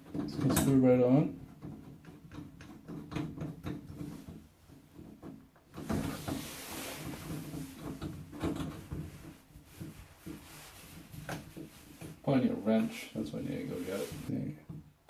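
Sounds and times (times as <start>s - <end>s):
plastic handling clicks and knocks: 0.0s - 12.3s.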